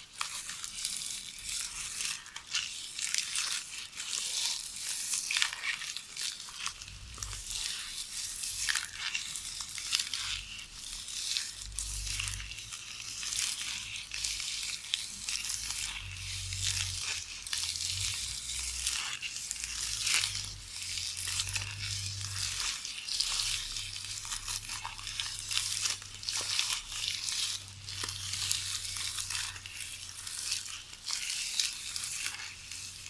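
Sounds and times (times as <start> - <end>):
videotape rustling and crackling: 0.1 - 33.0.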